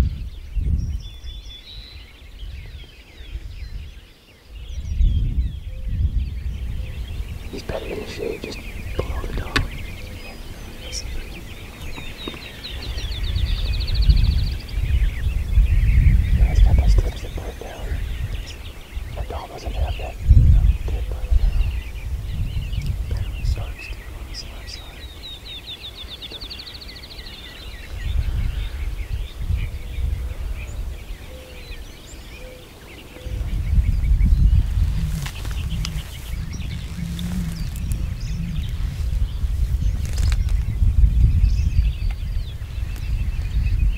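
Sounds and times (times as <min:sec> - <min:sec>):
birds chirping: 0:00.0 - 0:43.9
birds trilling: 0:00.0 - 0:43.9
low rumble on microphone: 0:00.0 - 0:43.9
songbirds singing: 0:00.0 - 0:43.9.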